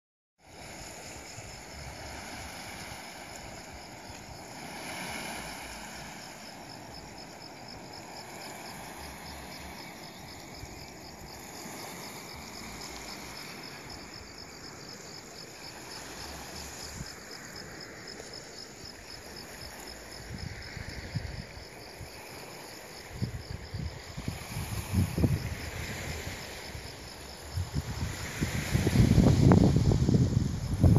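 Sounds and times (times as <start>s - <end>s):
crickets chirping: 0.4s - 30.9s.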